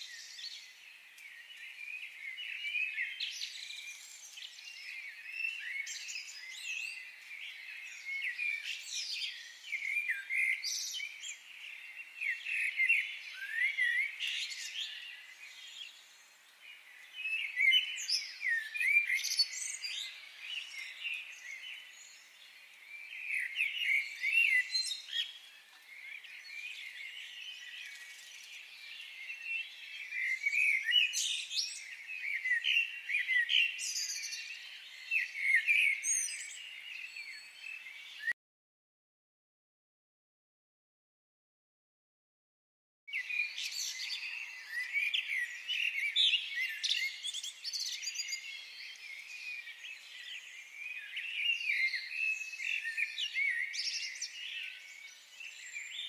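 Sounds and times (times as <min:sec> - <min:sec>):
songbirds chirping and singing: 0:00.0 - 0:38.4, 0:43.1 - 0:56.0.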